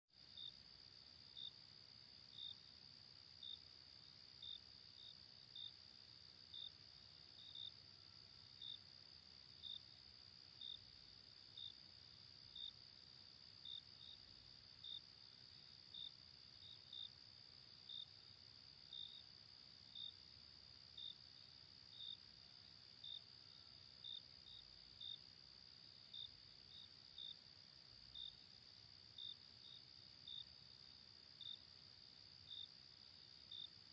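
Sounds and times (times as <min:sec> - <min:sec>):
insect chirp: 0:00.2 - 0:33.9
insect high-pitched buzz: 0:00.2 - 0:33.9.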